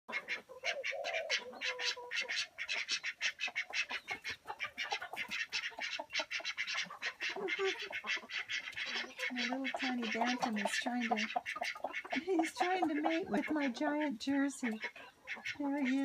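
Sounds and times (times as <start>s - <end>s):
ducks quacking: 0.1s - 16.0s.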